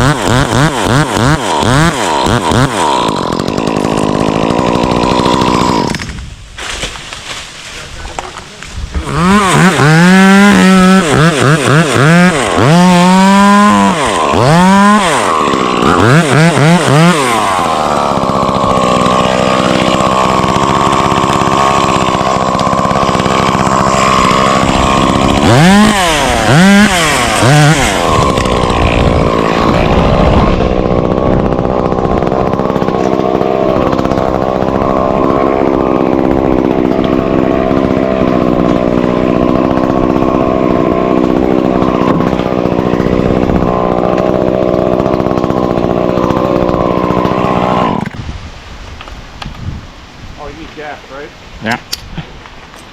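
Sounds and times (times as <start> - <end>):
chainsaw revving: 0.0 - 48.2.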